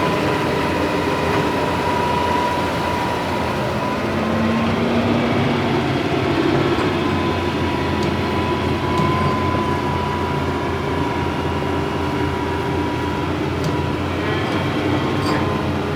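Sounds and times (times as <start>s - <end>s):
excavator diesel engine drone: 0.0s - 15.9s.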